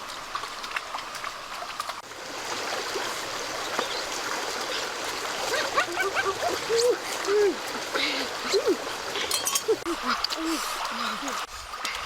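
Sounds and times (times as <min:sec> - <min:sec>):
flowing water rushing: 0:00.0 - 0:12.0
small clicks and splashes: 0:00.0 - 0:12.0.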